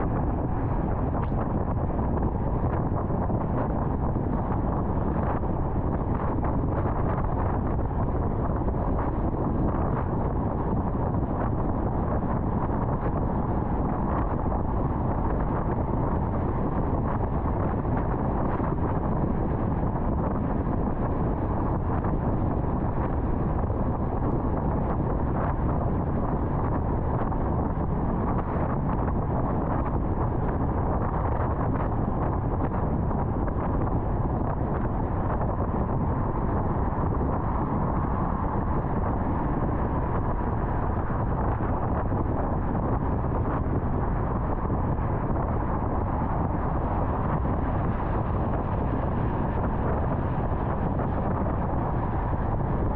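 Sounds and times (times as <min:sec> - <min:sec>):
tyre road noise: 0:00.0 - 0:52.9
wind noise from car: 0:00.0 - 0:52.9.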